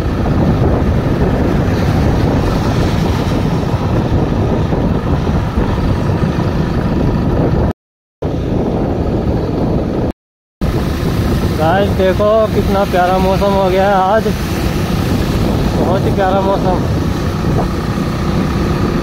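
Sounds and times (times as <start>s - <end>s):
tyres on wet road: 0.0s - 6.9s, 10.6s - 19.0s
vehicle engine: 0.0s - 19.0s
wind rushing over microphone: 0.0s - 19.0s.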